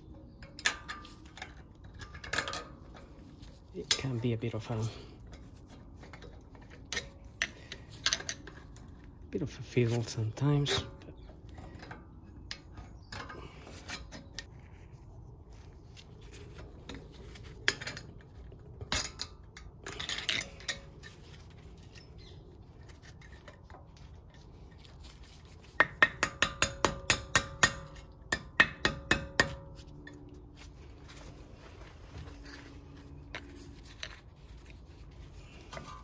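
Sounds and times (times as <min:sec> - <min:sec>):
metal spring clinking and scraping: 0:00.0 - 0:14.8, 0:16.4 - 0:36.0.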